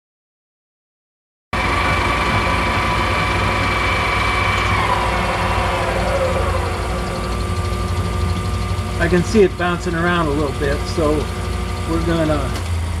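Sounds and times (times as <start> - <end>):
lathe whine: 1.6 - 13.0
low hum: 1.6 - 13.0.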